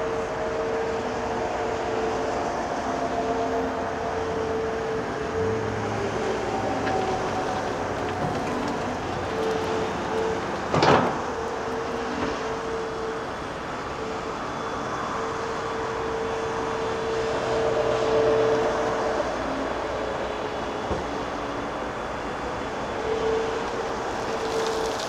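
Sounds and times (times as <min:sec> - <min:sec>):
heavy construction machinery running: 0:00.0 - 0:25.0.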